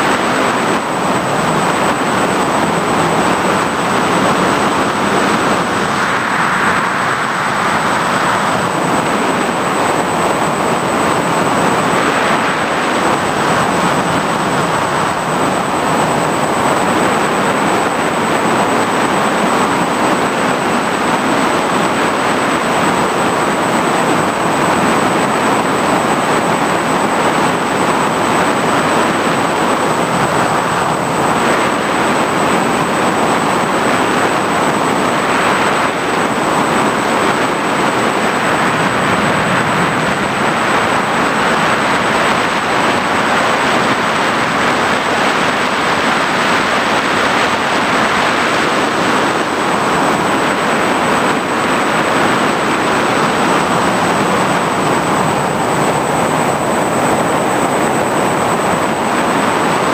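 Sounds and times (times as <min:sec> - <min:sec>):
drone propellers rushing: 0:00.0 - 0:59.9
high motor whine: 0:00.0 - 0:59.9.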